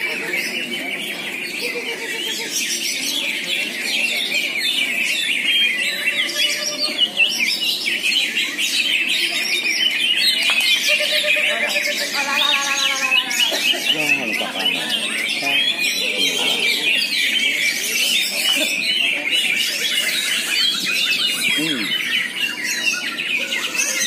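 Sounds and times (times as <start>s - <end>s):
songbirds chorus: 0.0s - 24.0s.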